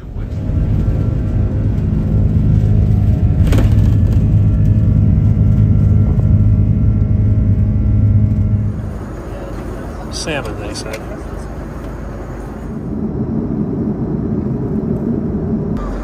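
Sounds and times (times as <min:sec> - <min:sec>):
low vehicle hum: 0:00.0 - 0:16.0.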